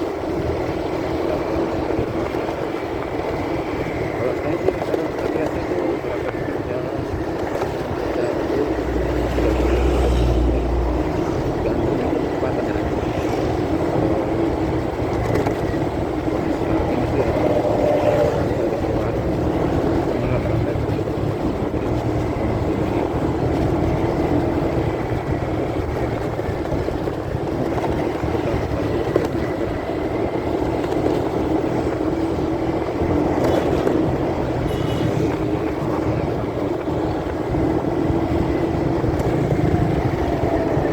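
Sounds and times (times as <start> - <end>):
muffled motorcycle engine: 0.0 - 40.9
muffled wind rumble: 0.0 - 40.9.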